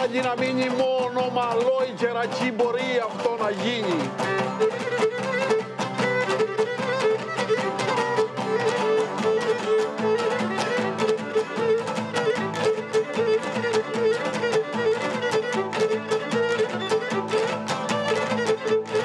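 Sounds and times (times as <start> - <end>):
lyra playing folk-dance melody: 0.0 - 19.0
rhythmic lute strumming: 0.0 - 19.0.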